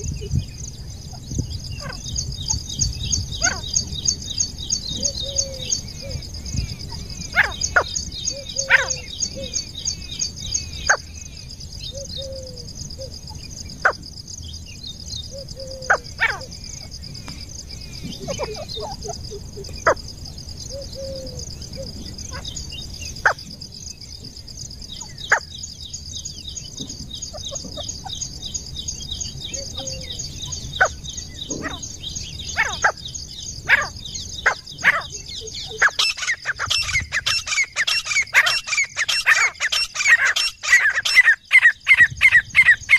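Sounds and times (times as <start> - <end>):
francolins calling: 0.0 - 42.9.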